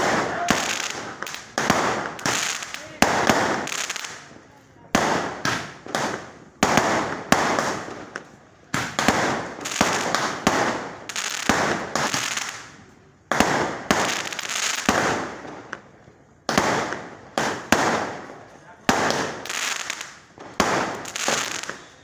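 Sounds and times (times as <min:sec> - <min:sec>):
fireworks banging and crackling: 0:00.0 - 0:22.0.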